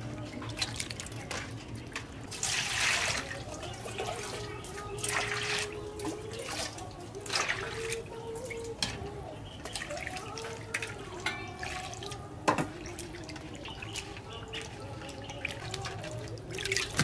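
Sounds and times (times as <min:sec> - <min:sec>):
water poured into metal basin: 0:02.3 - 0:09.1, 0:09.8 - 0:17.0.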